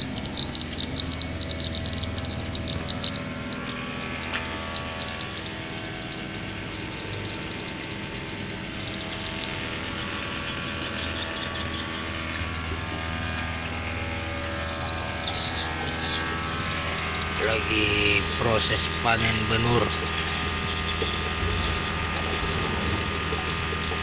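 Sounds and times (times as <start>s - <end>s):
high evenly spaced chirps: 0.0s - 24.0s
motor humming: 0.0s - 24.0s.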